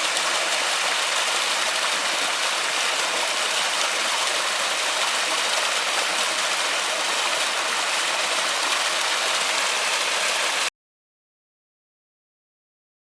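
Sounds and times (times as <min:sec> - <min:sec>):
heavy rain falling: 0:00.0 - 0:10.7.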